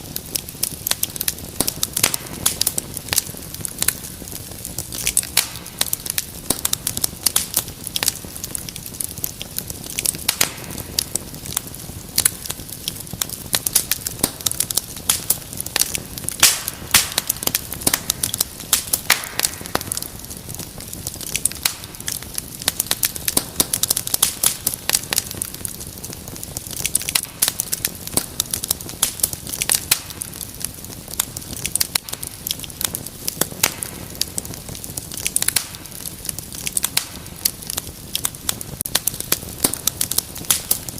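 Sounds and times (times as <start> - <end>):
hiss of burning: 0.0 - 40.9
wood fire crackling and popping: 0.0 - 40.9.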